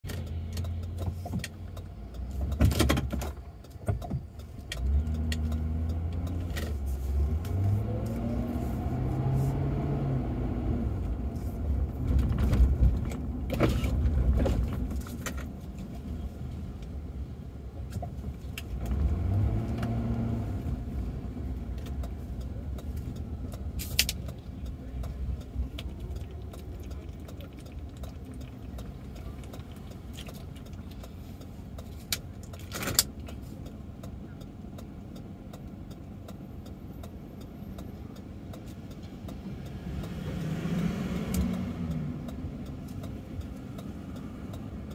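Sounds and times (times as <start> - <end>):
road rumble inside car: 0.0 - 44.9
car engine accelerating: 4.3 - 17.3, 18.1 - 44.9.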